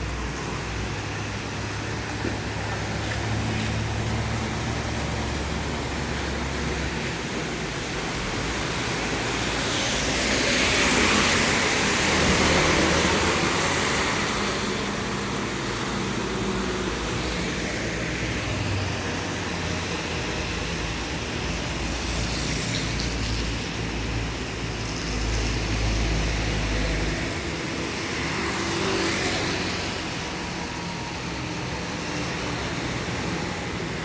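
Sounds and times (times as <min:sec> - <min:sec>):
rain hiss: 0:00.0 - 0:34.0
vehicle passing on wet road: 0:00.0 - 0:34.0.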